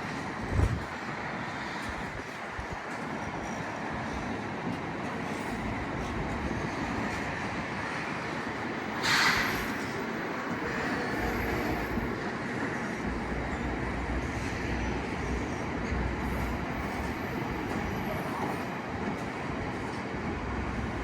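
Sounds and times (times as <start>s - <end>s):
train rumble and hiss: 0.0s - 21.0s.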